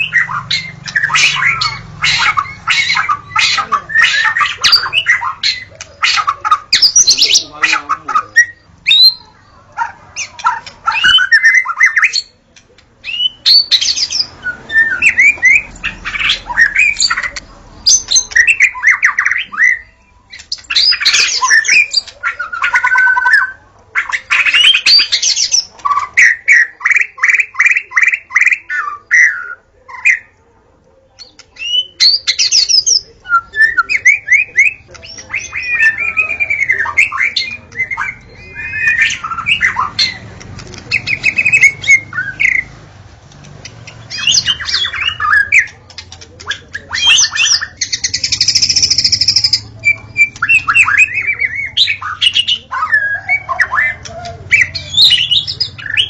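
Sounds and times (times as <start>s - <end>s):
songbird whistling and chattering: 0.0s - 30.4s, 31.1s - 42.7s, 43.3s - 56.0s.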